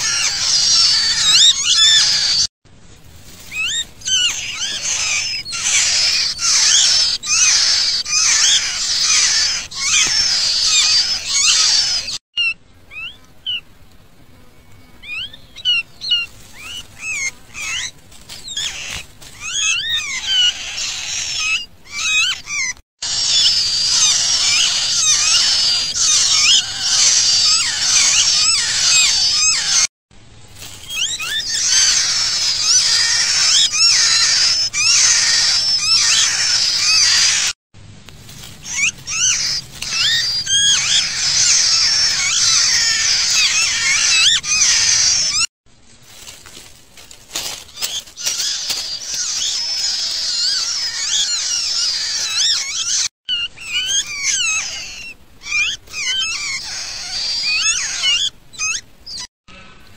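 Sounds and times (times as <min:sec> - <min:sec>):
nestlings chirping shrilly: 0:00.0 - 0:02.5, 0:03.3 - 0:13.6, 0:15.0 - 0:29.9, 0:30.6 - 0:37.6, 0:38.3 - 0:45.5, 0:46.2 - 0:59.3.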